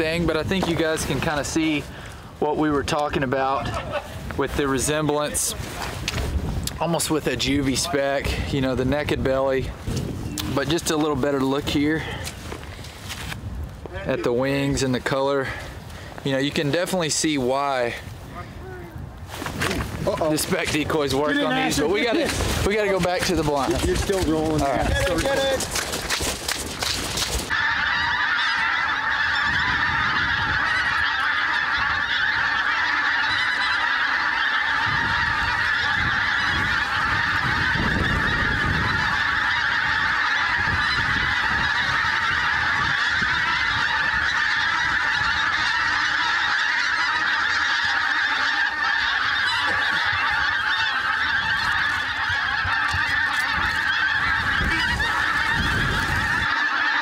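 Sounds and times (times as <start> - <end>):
flock of geese honking: 0.0 - 57.0.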